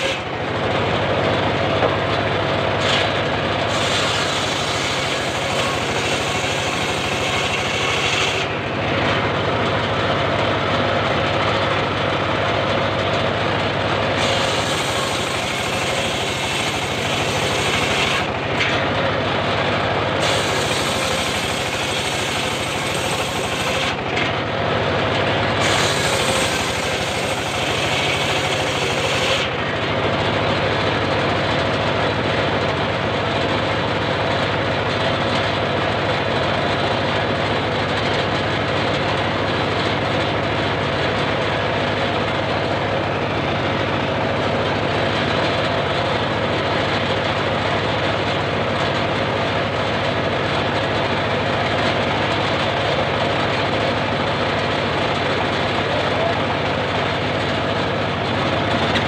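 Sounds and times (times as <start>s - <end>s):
sawmill mechanical drone: 0.0s - 59.0s.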